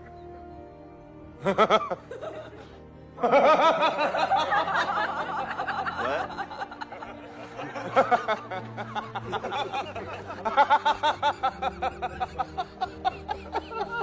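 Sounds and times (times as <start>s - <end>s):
background music: 0.0s - 14.0s
person laughing: 1.4s - 14.0s.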